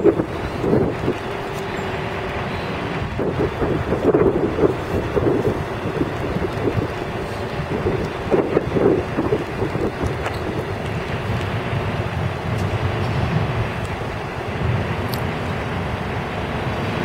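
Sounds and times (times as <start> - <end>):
diesel engine idling: 0.0 - 17.0
wind buffeting microphone: 0.0 - 17.0.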